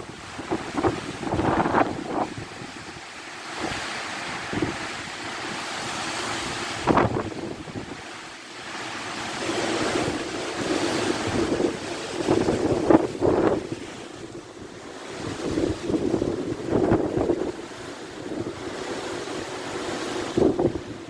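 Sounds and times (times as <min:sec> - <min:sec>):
gusting wind on microphone: 0:00.0 - 0:21.0.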